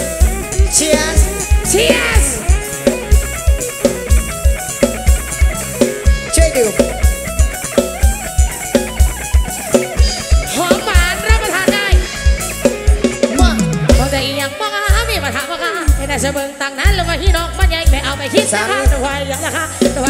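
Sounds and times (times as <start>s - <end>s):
plucked string melody: 0.0s - 17.2s.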